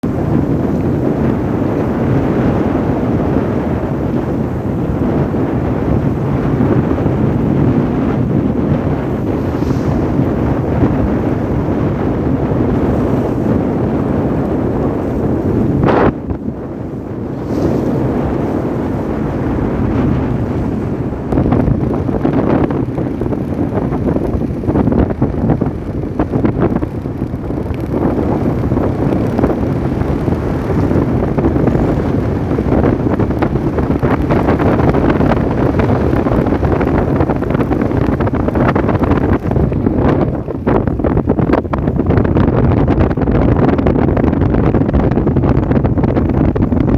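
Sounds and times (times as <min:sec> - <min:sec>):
boat engine running: 0:00.0 - 0:46.9
wind buffeting microphone: 0:00.0 - 0:46.9.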